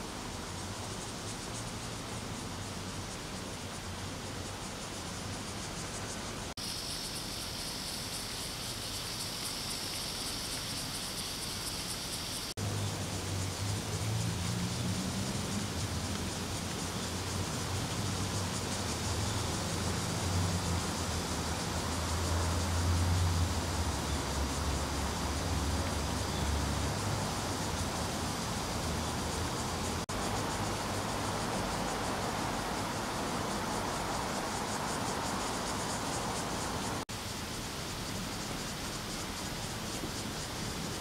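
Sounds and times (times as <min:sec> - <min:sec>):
high insect buzz: 0:00.0 - 0:41.0.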